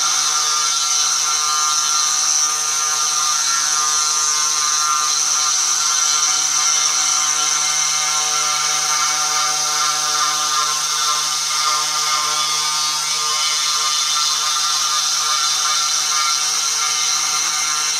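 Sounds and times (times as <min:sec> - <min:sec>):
router spindle cutting wood: 0:00.0 - 0:17.9.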